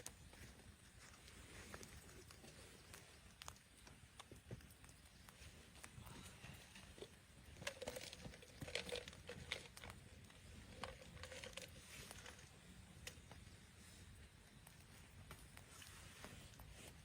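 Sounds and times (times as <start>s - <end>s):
faint crunching and clicking handling: 0.0s - 17.0s.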